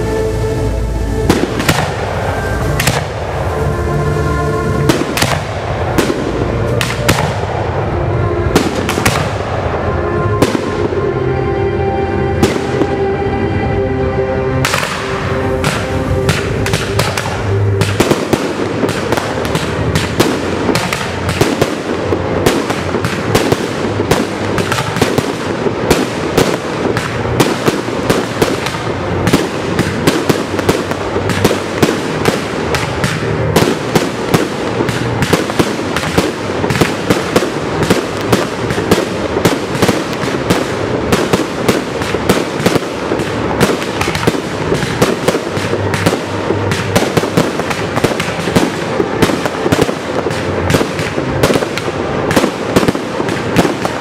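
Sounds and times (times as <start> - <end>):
fireworks crackle: 0.0 - 11.1, 12.4 - 13.1, 14.5 - 54.0
fireworks bangs: 0.0 - 11.2, 12.4 - 13.1, 14.6 - 54.0.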